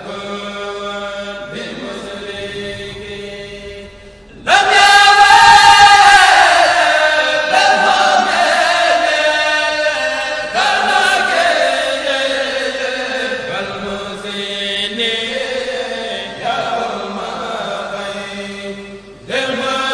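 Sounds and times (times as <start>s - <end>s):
voices chanting devotional poem: 0.0s - 19.9s.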